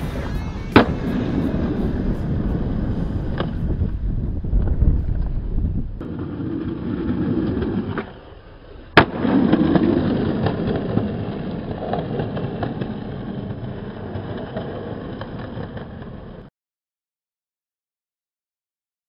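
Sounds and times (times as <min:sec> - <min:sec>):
skateboard wheels rolling on concrete: 0:00.0 - 0:16.5
skateboard cracking: 0:00.1 - 0:16.5.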